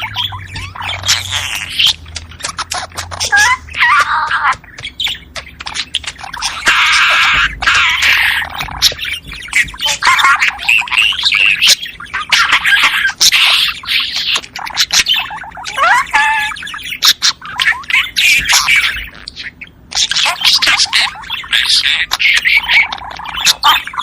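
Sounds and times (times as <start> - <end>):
budgerigars warbling and chattering: 0.0 - 24.0.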